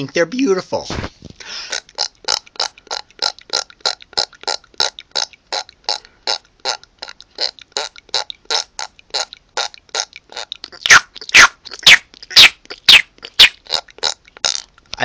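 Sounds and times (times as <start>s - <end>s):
person making short mouth noises: 0.9s - 15.0s.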